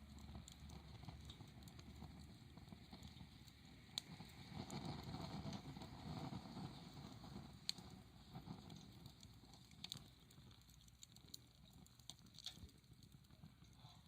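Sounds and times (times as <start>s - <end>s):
campfire crackling and popping: 0.0s - 14.0s
low hiss of flames: 0.0s - 14.0s.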